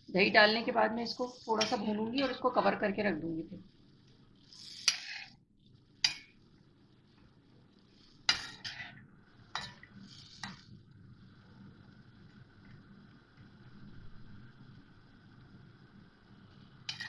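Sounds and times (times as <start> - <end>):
faint frying sizzle: 0.0 - 17.0.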